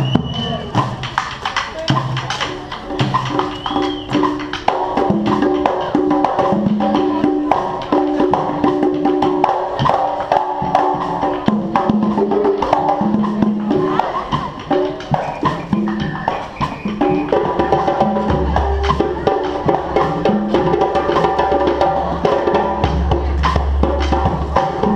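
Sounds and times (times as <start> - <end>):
drums and hand percussion: 0.0 - 24.9.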